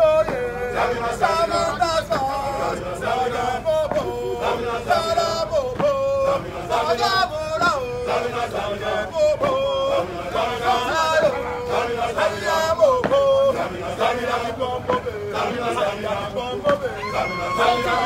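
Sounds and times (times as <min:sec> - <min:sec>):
group chanting a marching song: 0:00.0 - 0:18.0.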